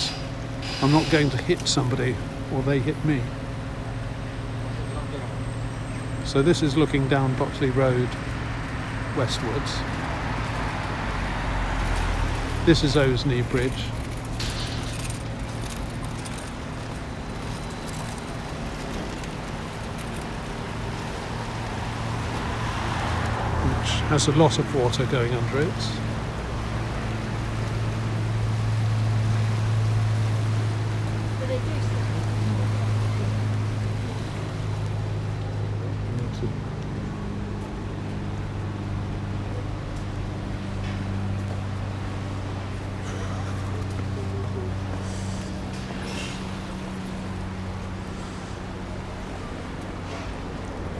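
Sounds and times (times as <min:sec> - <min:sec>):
engine droning: 0:00.0 - 0:50.9
road traffic noise: 0:00.0 - 0:50.9
street noise: 0:00.0 - 0:50.9.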